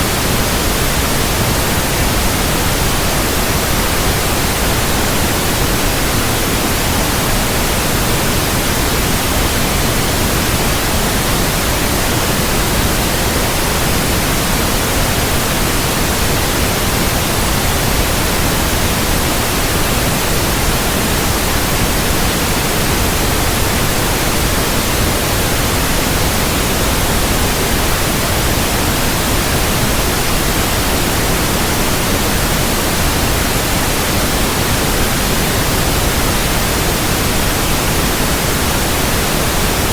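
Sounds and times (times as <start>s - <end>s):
electronic white noise hiss: 0.0s - 39.9s.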